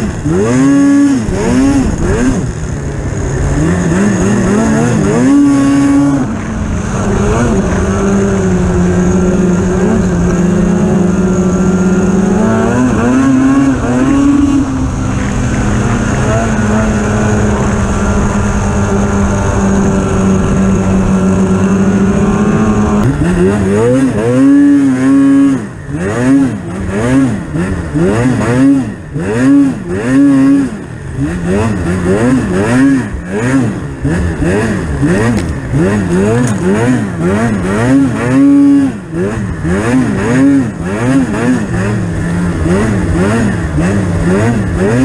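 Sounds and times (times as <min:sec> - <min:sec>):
snowmobile engine revving: 0:00.0 - 0:45.0.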